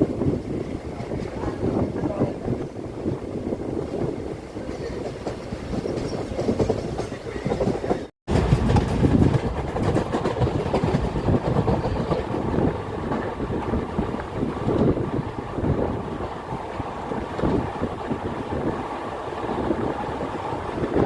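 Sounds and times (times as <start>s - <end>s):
train rumble: 0.0s - 21.0s
wheels clattering over rail joints: 3.8s - 21.0s.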